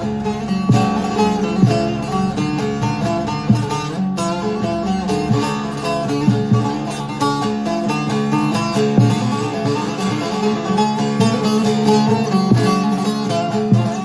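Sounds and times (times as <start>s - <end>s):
long-necked lute picked melody: 0.0s - 14.0s.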